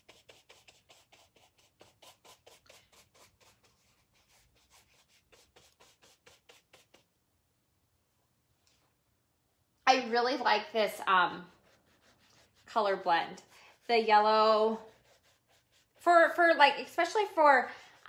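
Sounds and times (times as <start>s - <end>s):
scratchy paintbrush strokes: 0.0s - 7.2s, 10.4s - 18.0s.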